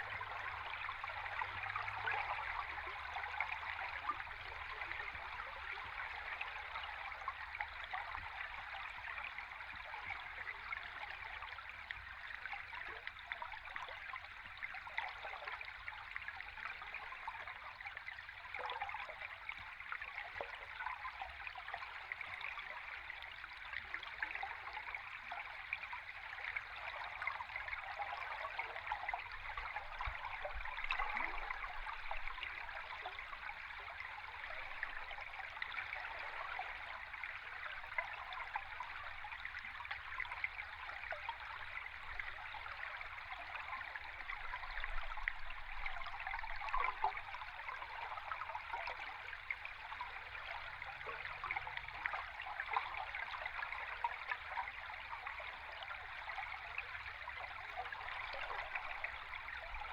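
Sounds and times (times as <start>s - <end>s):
stream water flowing underwater: 0.0s - 59.9s
water gurgles and bubbles: 0.0s - 59.9s.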